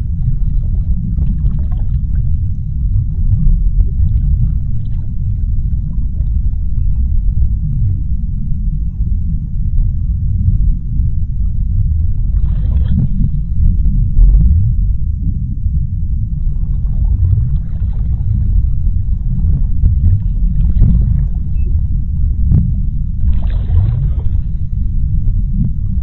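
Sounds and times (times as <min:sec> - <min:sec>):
deep underwater rumble: 0:00.0 - 0:26.0.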